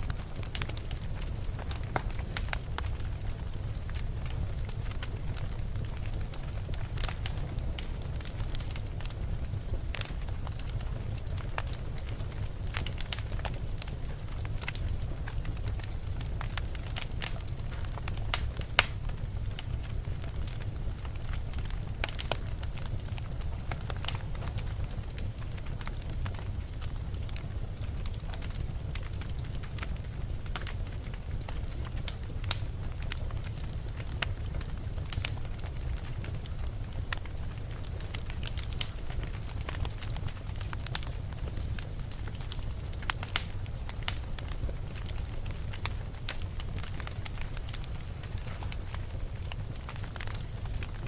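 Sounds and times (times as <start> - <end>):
fire burning in fireplace: 0.0 - 51.0
fire crackles and pops: 0.0 - 51.0.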